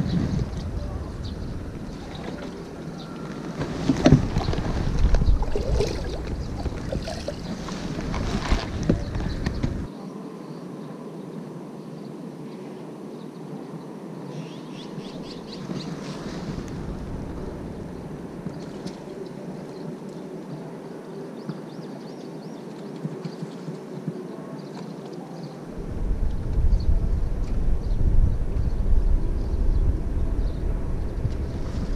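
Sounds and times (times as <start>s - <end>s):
wind rumbling on microphone: 0.0s - 9.9s, 13.8s - 24.6s, 25.6s - 31.9s
steady low hiss: 0.0s - 31.9s.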